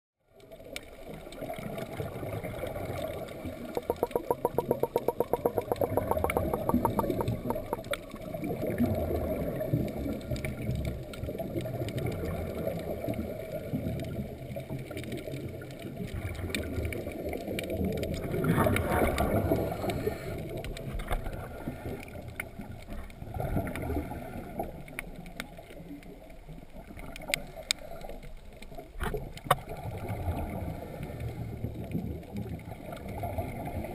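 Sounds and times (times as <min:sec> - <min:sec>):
underwater rush of water: 0:00.2 - 0:33.9.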